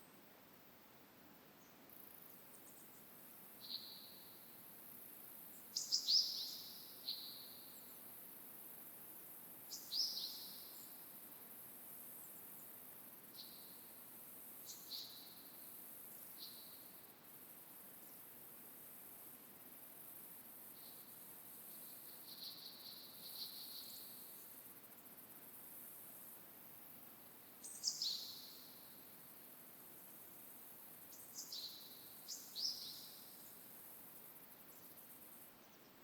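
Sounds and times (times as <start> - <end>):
high hiss of forest ambience: 0.0 - 36.0.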